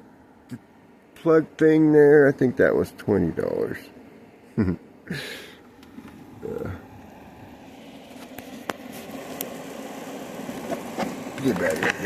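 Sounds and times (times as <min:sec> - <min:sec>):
low hiss: 0:00.0 - 0:12.0.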